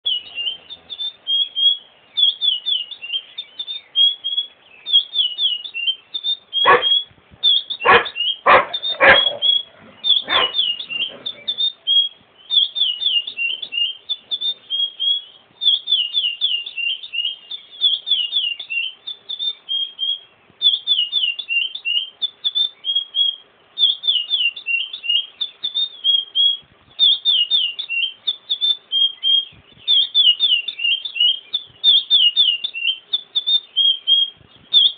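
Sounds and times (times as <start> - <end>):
seed-finch whistling song: 0.0 - 34.9.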